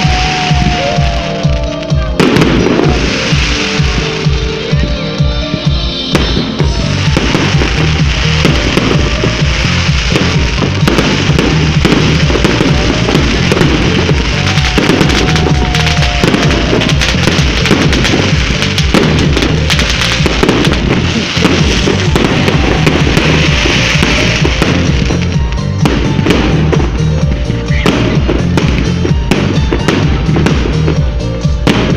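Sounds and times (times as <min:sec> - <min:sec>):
fireworks crackling and popping: 0:00.0 - 0:31.9
music playing: 0:00.0 - 0:31.9.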